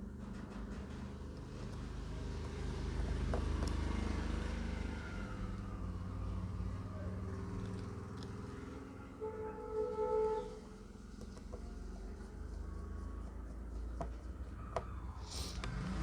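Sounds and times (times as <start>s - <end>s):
vehicle engine rumbling past: 0.0s - 16.0s.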